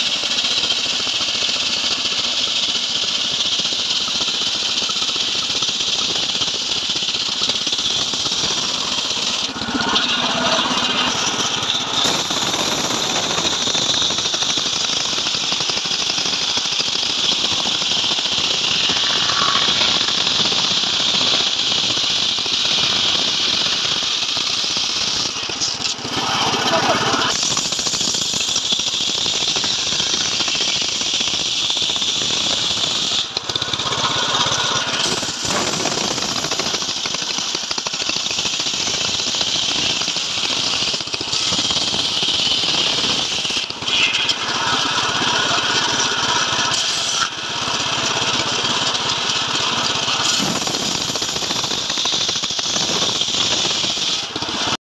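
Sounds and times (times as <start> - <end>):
circular saw cutting wood: 0.0 - 54.8.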